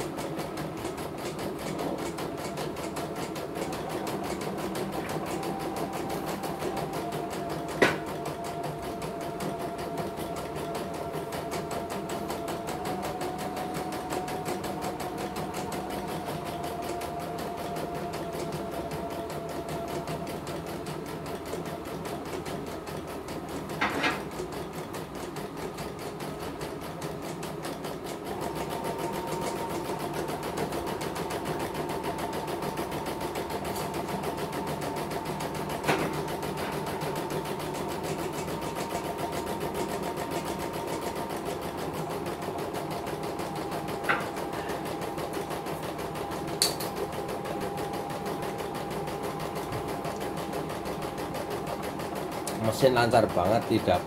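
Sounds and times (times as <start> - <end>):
embroidery machine stitching: 0.0 - 54.0.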